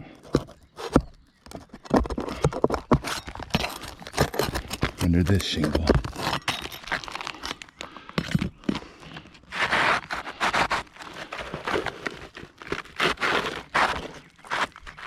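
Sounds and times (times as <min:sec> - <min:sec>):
roof shingles scraping and crinkling: 0:00.0 - 0:15.0.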